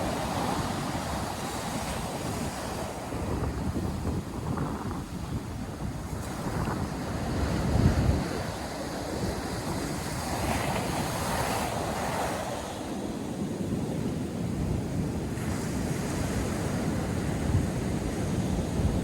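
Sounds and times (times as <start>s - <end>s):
surf breaking and washing ashore: 0.0s - 19.0s
wind buffeting microphone: 0.0s - 19.0s.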